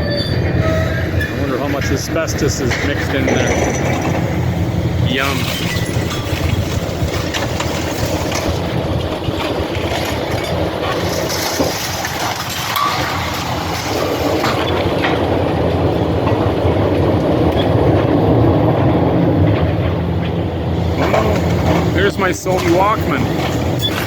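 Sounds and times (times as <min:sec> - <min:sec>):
heavy machine engine rumbling: 0:00.0 - 0:24.0
building materials crunching and clattering: 0:01.4 - 0:24.0.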